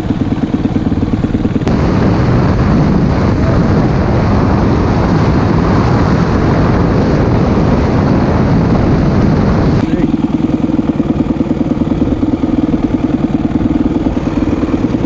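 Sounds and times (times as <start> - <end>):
motorcycle engine running: 0.0 - 15.0
wind on the microphone: 0.0 - 15.0.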